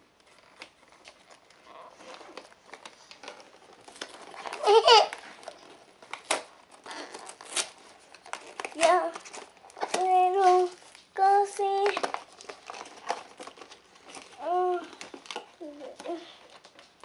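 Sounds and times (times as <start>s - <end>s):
packaging crinkling: 0.1s - 17.0s.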